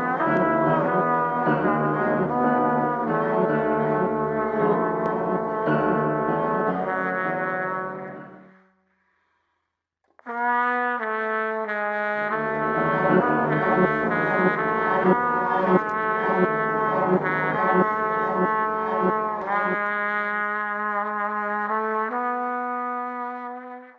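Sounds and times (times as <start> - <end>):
brassy instrumental music: 0.0 - 8.6, 10.2 - 23.9.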